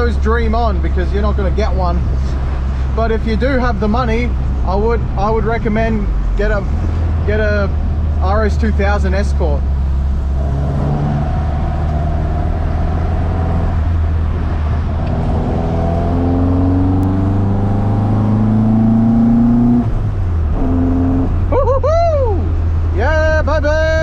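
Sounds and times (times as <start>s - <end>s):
car engine revving: 0.0s - 21.7s.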